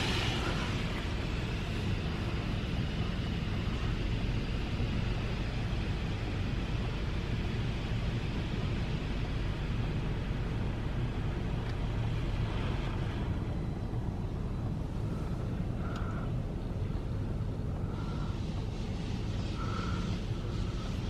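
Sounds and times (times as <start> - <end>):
car wash rumble: 0.0 - 21.0.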